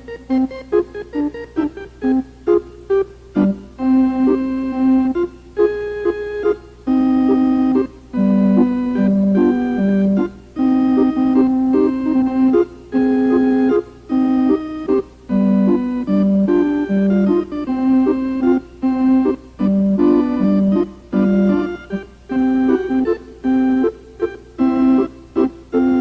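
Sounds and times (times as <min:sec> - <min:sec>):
slow organ melody: 0:00.0 - 0:26.0.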